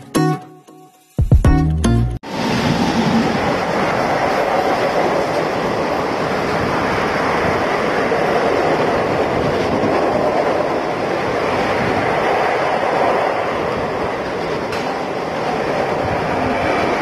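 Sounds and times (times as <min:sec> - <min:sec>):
train coaches passing at speed: 0:02.2 - 0:17.0.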